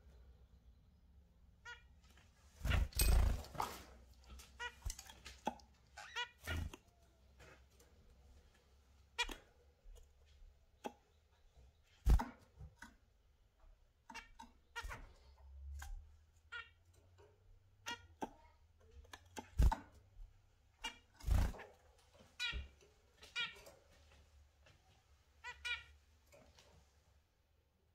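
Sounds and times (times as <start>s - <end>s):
small birds chirping: 0.0s - 26.7s.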